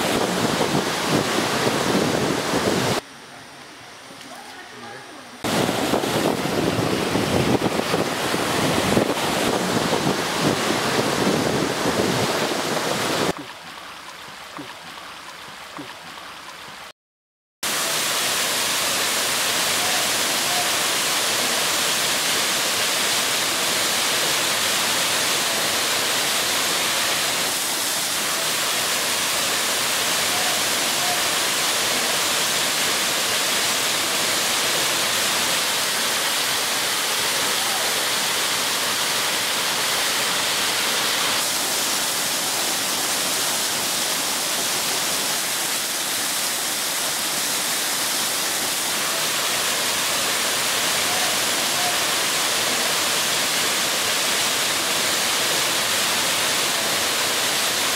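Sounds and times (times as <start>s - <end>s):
surf breaking and washing: 0.0s - 3.0s, 5.4s - 13.4s, 17.7s - 57.9s
waterfall rushing over rock: 0.0s - 3.0s, 5.4s - 13.4s, 17.6s - 57.9s.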